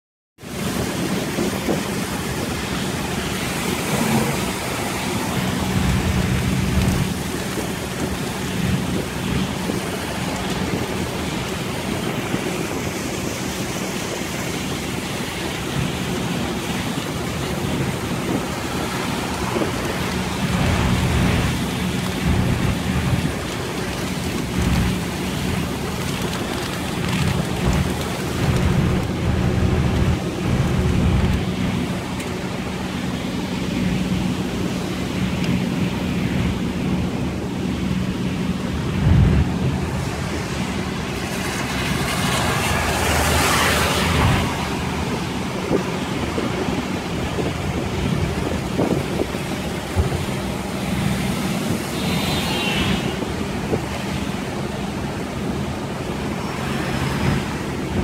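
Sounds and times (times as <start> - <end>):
heavy rain on vehicle roof: 0.4 - 58.0
vehicle engine hum: 0.4 - 58.0
wet road noise: 0.4 - 58.0.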